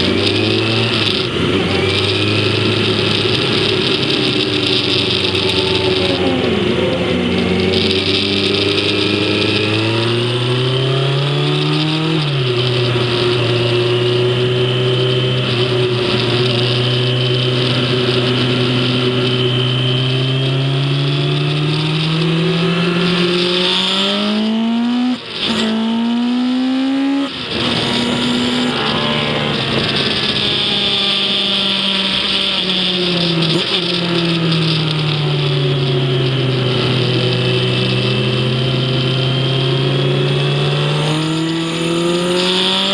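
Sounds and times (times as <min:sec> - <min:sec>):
gear shifts: 0:00.0 - 0:42.9
racing engine accelerating: 0:00.0 - 0:42.9.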